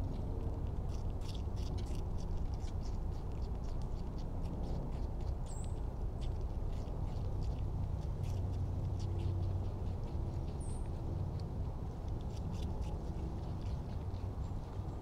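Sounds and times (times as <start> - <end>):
low background rumble: 0.0 - 15.0
rabbit crunching apple: 0.0 - 15.0.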